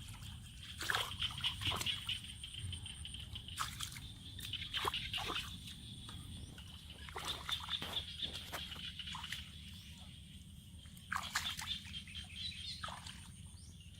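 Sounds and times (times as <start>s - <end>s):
water sloshing and splashing: 0.0s - 13.9s.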